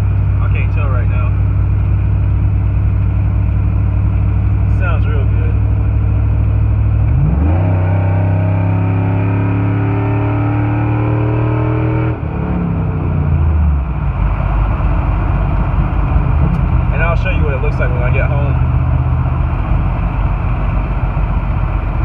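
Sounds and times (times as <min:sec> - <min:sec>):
road noise: 0:00.0 - 0:22.0
truck engine accelerating: 0:00.0 - 0:22.0.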